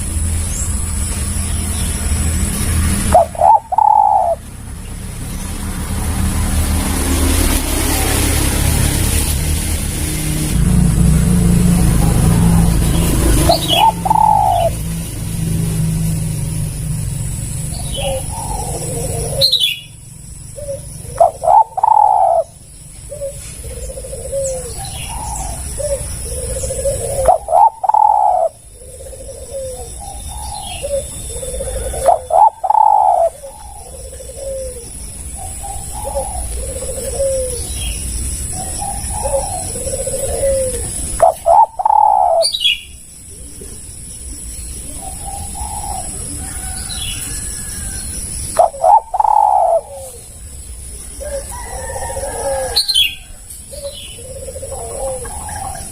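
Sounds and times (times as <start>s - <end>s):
doves cooing: 1.2s - 4.7s, 10.5s - 55.9s.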